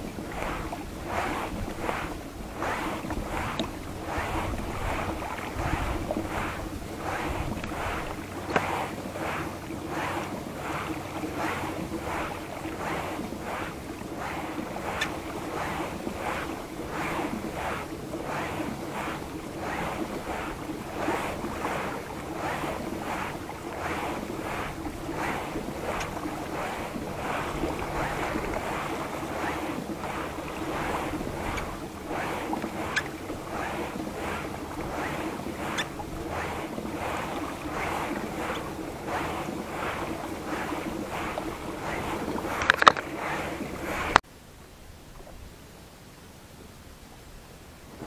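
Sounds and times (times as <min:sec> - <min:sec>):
wind on microphone: 0:00.0 - 0:44.2
water swishing along kayak hull: 0:00.0 - 0:48.0.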